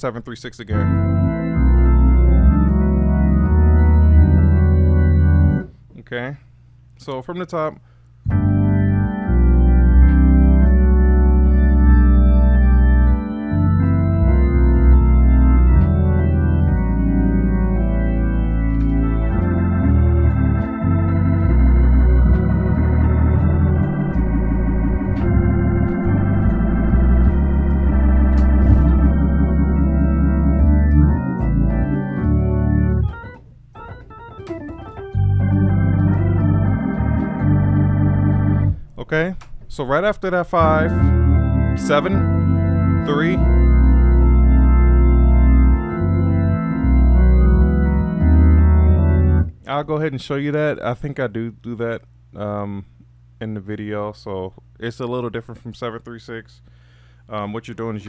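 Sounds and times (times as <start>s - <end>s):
organ pedal bass notes: 0.0s - 6.3s, 8.1s - 58.0s
organ chords: 0.0s - 7.2s, 7.8s - 53.8s.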